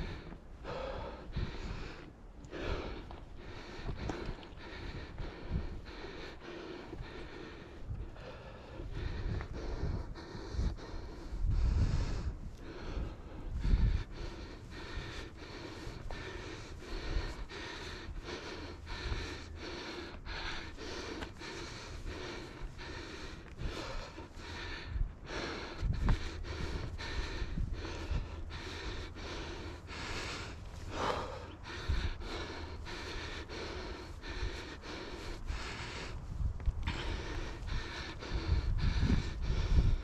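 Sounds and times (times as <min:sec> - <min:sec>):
heavy breathing through face mask: 0:00.0 - 0:40.0.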